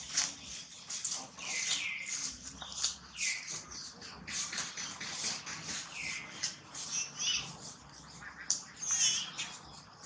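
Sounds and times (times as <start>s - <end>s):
dry leaves rustling: 0.0s - 8.2s.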